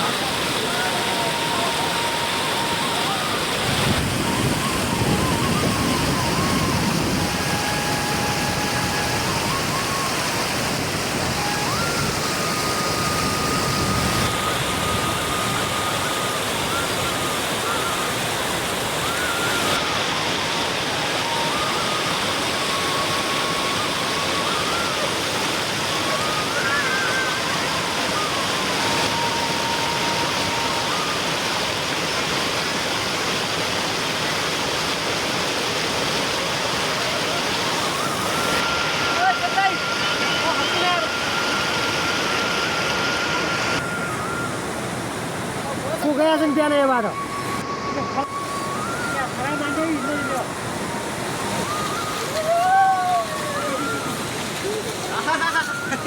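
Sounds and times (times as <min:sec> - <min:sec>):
steady rushing noise: 0:00.0 - 0:56.0
slow soft melody: 0:01.1 - 0:31.8, 0:37.3 - 0:56.0.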